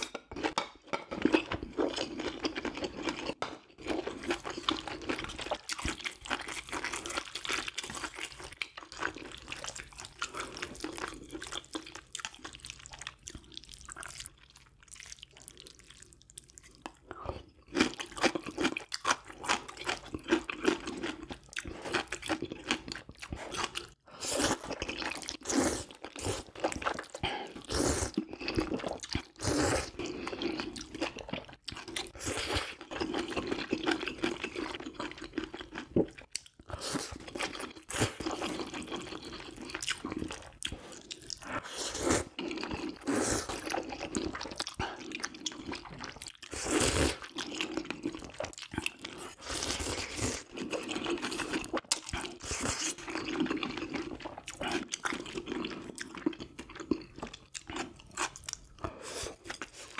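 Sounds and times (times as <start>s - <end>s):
person chewing and slurping: 0.0s - 59.9s.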